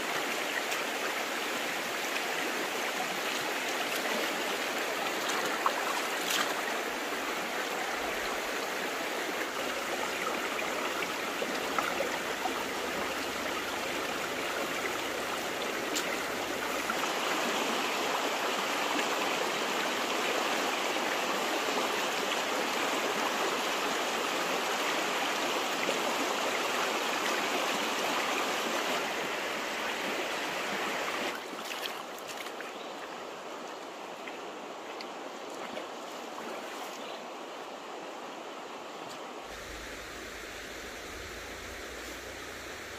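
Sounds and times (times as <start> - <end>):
stream flowing: 0.0 - 42.9.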